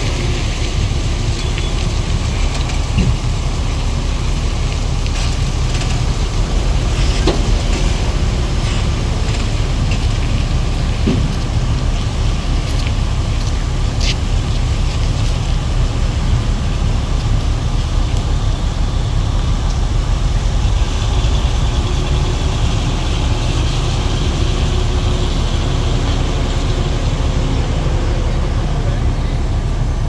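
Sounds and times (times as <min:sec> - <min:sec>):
faint engine tones: 0:00.0 - 0:30.0
truck engines rumbling: 0:00.0 - 0:30.0.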